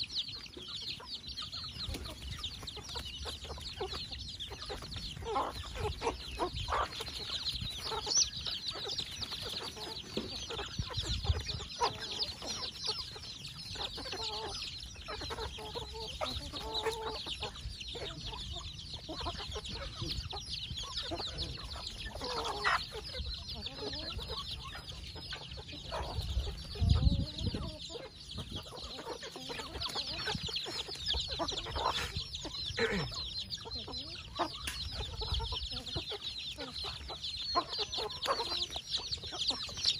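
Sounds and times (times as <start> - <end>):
chicks peeping: 0.0 - 39.9
hens clucking: 0.0 - 39.9.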